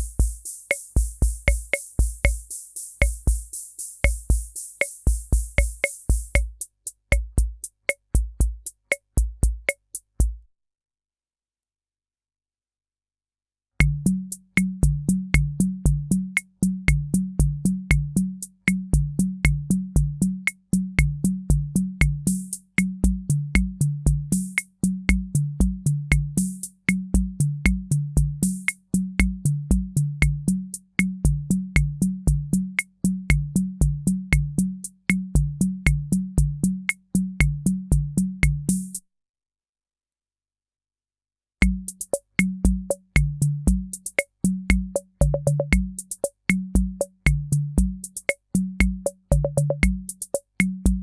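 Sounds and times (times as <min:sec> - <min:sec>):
drum machine rhythm pattern: 0:00.0 - 0:10.4, 0:13.8 - 0:39.0, 0:41.6 - 0:51.0.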